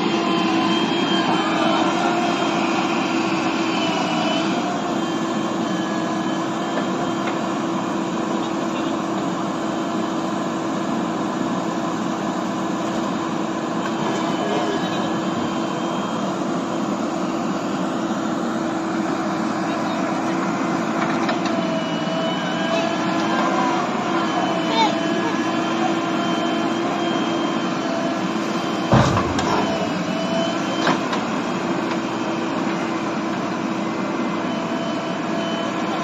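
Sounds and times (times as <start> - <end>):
diesel engine droning under load: 0.0 - 36.0.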